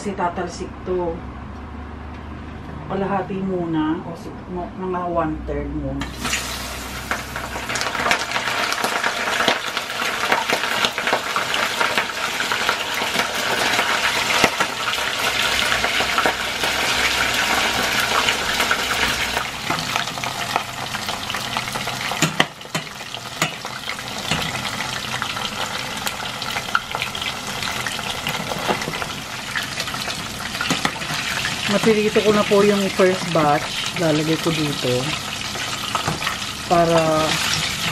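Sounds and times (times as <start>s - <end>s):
chicken deep-frying in hot oil: 6.0s - 37.9s.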